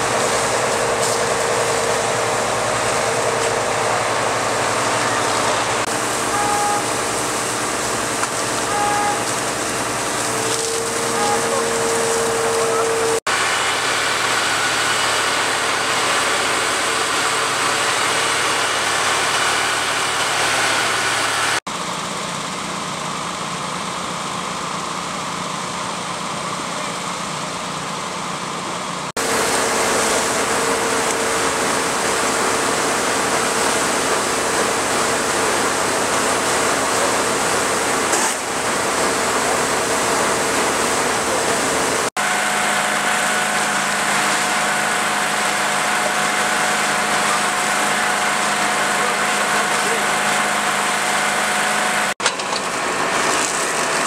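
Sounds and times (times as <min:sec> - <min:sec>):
hoses spraying water: 0:00.0 - 0:21.6, 0:29.2 - 0:54.0
fire truck pump engines: 0:00.0 - 0:54.0.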